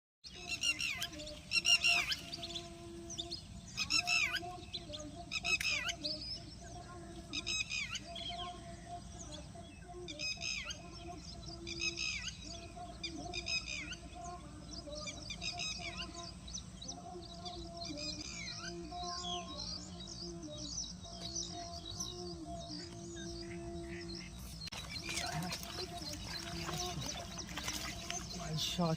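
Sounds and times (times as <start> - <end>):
birds chirping: 0.2 - 28.9.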